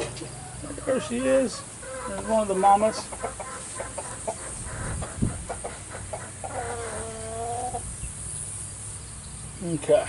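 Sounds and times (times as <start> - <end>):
chickens clucking: 0.0 - 9.5.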